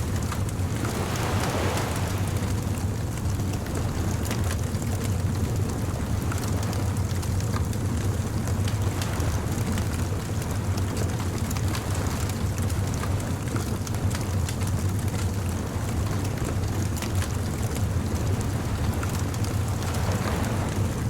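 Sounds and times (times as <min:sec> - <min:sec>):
bonfire crackling: 0:00.0 - 0:20.9
low rumble of fire: 0:00.0 - 0:21.0.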